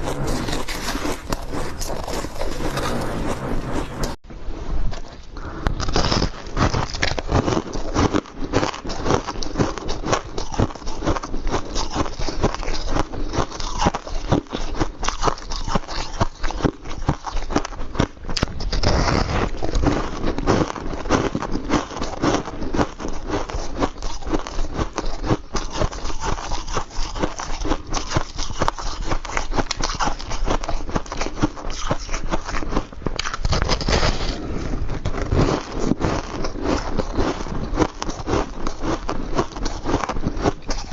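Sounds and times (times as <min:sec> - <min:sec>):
chewing crunchy ice: 0:00.0 - 0:04.0, 0:05.7 - 0:40.9.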